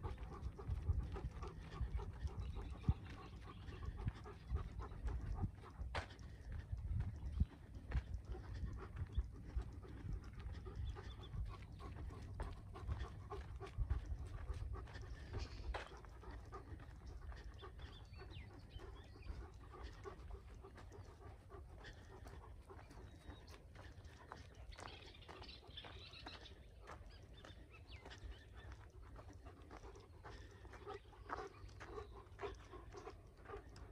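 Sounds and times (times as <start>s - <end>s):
dog panting: 0.0s - 33.9s.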